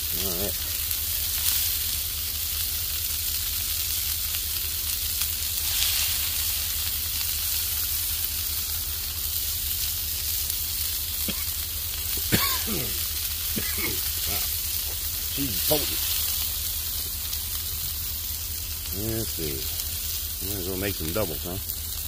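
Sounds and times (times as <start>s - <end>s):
burger patties sizzling on griddle: 0.0s - 22.0s
low steady hum: 0.0s - 22.0s.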